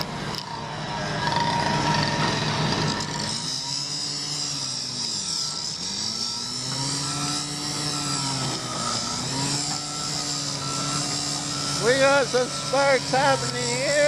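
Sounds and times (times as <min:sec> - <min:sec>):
heavy machinery engine: 0:00.0 - 0:14.0
steady high whine: 0:00.0 - 0:14.0.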